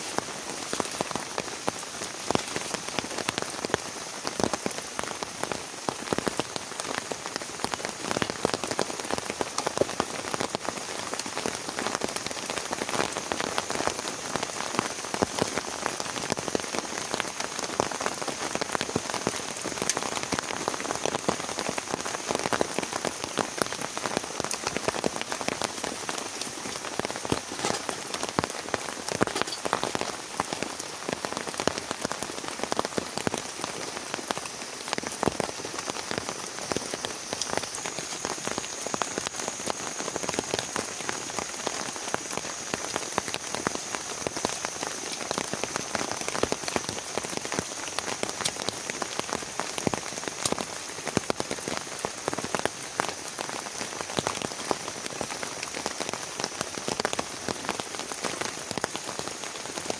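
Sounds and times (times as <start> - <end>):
heavy rain falling: 0.0 - 59.9
raindrops hitting a surface: 0.0 - 59.9.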